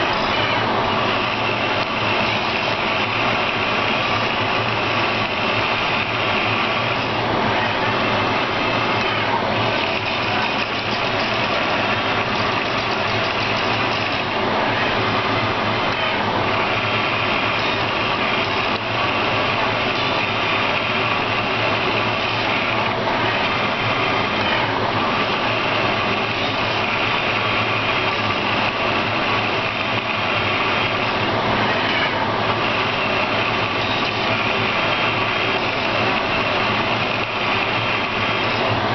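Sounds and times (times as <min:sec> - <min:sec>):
print head whine: 0:00.0 - 0:38.9
printer mechanical hum: 0:00.0 - 0:38.9.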